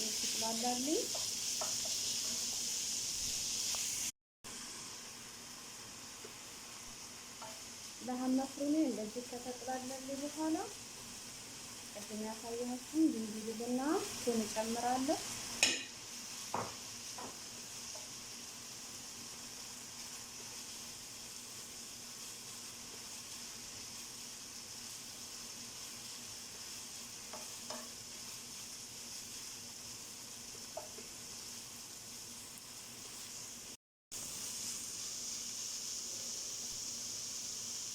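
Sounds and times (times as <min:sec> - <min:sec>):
meat sizzling in oil: 0:00.0 - 0:37.9.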